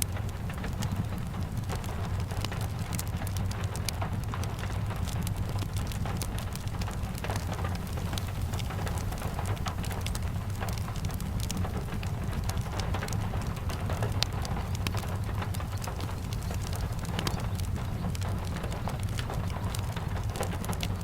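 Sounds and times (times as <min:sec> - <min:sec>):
steady rain: 0:00.0 - 0:21.0
wood fire crackling and popping: 0:00.0 - 0:21.0.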